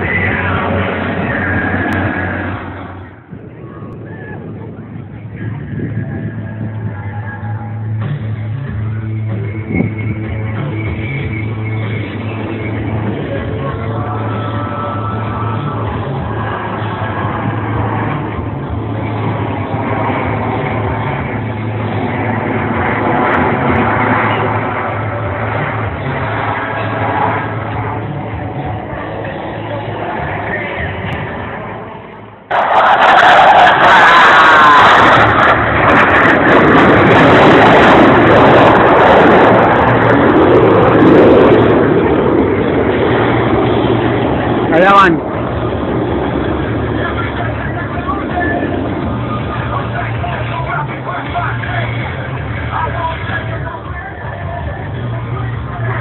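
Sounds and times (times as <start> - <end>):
jets roaring past: 0.0 - 56.0.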